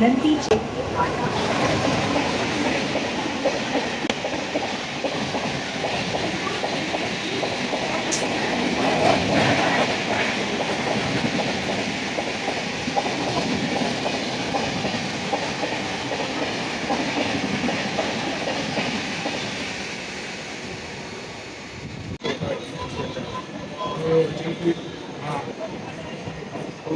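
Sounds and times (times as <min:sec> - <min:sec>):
train rumbling past: 0:00.0 - 0:26.9.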